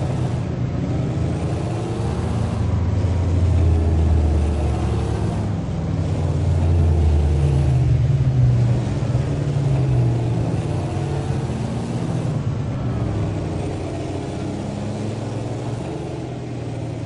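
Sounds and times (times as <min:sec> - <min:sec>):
diesel truck engine growling: 0:00.0 - 0:17.0.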